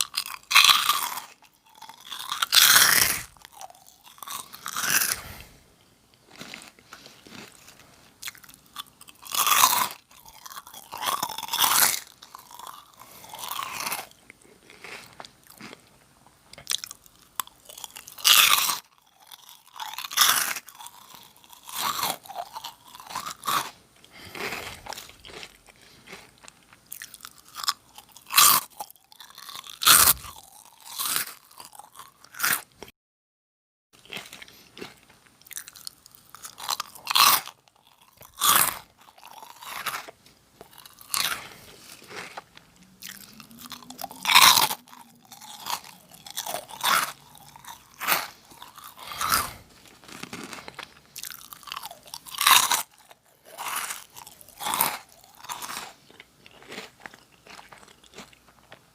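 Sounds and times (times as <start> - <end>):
crunching and chewing snack: 0.0 - 32.9, 34.0 - 58.9.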